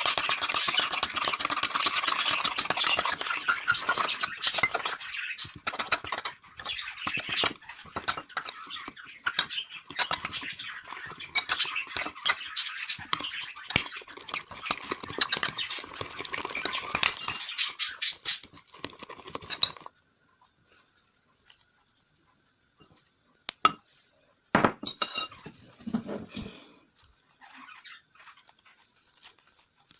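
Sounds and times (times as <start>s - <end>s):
utensil stirring slime: 0.0s - 23.8s, 26.9s - 29.9s.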